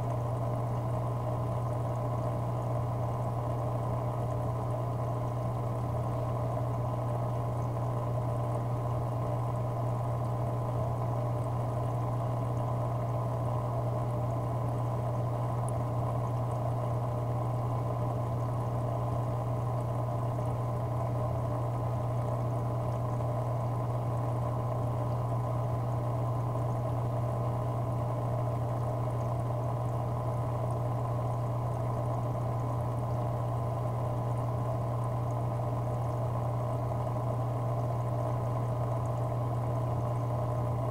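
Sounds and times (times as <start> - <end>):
aquarium pump humming: 0.0 - 40.9
water trickling: 0.0 - 40.9.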